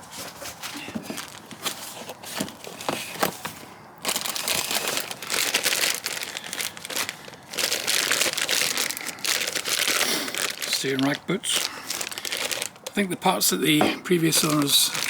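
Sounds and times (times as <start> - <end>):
packaging crinkling: 0.5 - 15.0.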